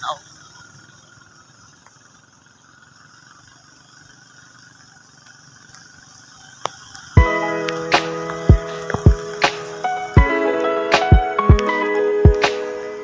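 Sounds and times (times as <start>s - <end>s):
rain and tyres on wet street: 0.0s - 13.0s.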